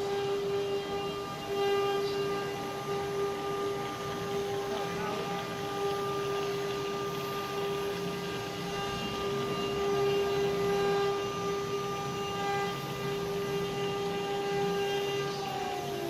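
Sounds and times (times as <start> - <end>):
stone carving machine motor whine: 0.0 - 16.0.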